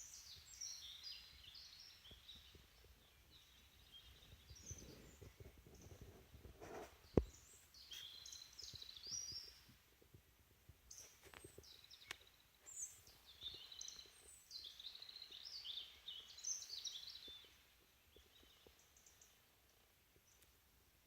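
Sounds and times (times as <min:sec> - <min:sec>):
songbird warbling and chirping: 0:00.0 - 0:09.7, 0:10.9 - 0:19.4.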